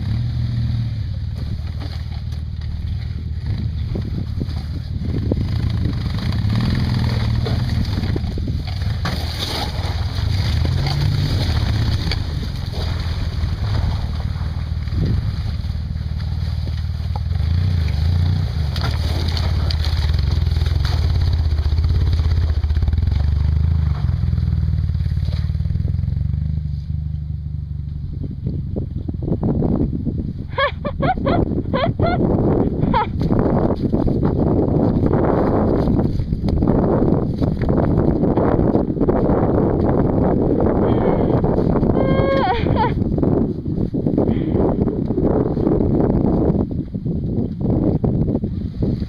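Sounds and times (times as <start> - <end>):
off-road buggy engines running: 0.0 - 49.0.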